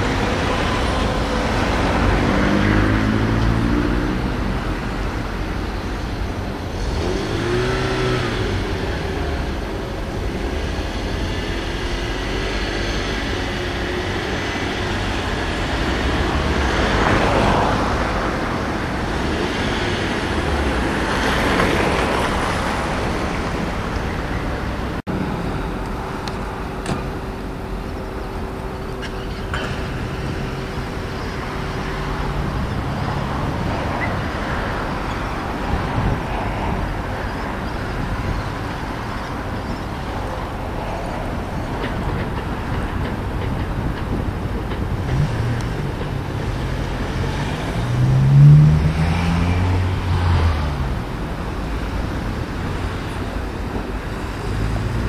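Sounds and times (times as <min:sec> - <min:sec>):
street traffic: 0:00.0 - 0:55.0
tram rolling on track: 0:00.0 - 0:55.0.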